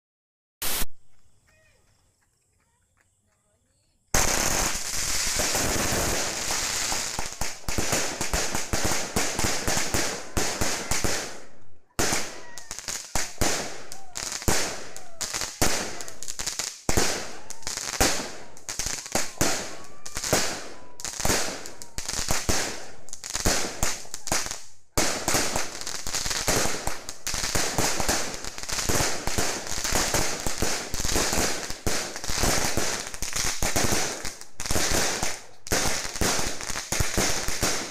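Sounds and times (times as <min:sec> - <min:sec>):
fireworks bangs and crackles: 0:00.6 - 0:01.1, 0:04.1 - 0:37.9.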